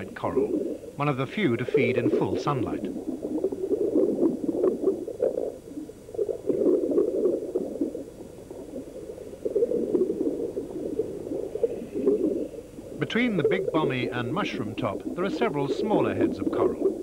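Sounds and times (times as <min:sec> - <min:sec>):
underwater bubbling and gurgling: 0:00.0 - 0:17.0.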